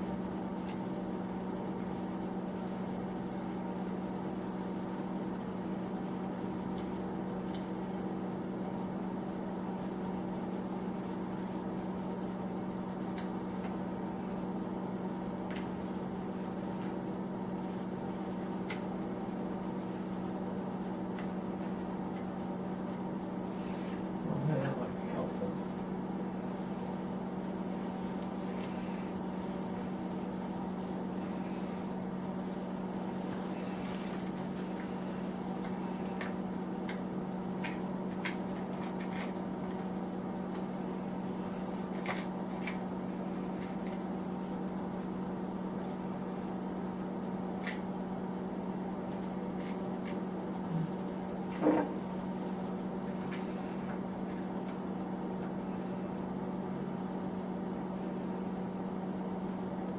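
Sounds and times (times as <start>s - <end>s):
space heater humming: 0.0s - 59.9s.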